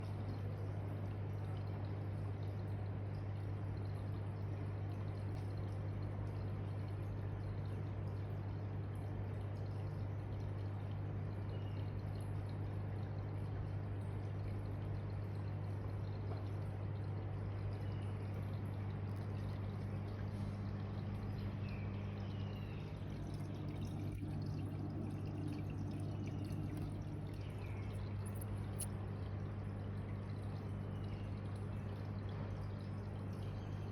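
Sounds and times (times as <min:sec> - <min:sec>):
pump motor humming: 0:00.0 - 0:33.9
water trickling: 0:00.0 - 0:33.9.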